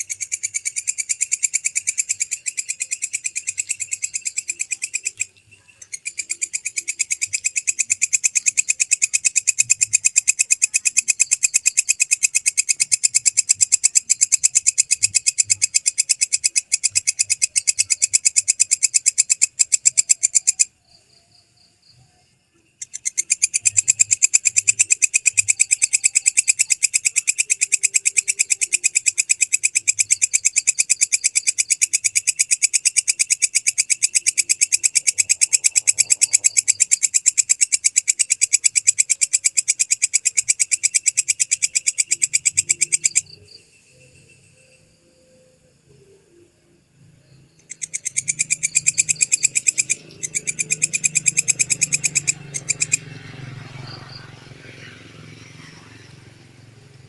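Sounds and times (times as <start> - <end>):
katydid shrill pulsing trill: 0.0 - 20.8, 22.8 - 46.4, 47.6 - 57.0.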